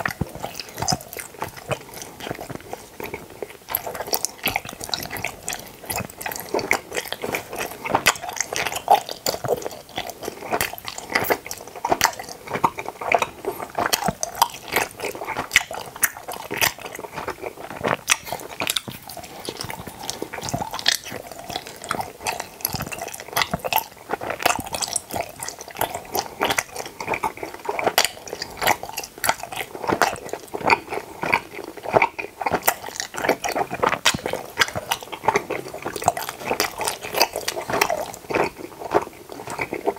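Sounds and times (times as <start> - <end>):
chewing gummy candy: 0.0 - 39.9.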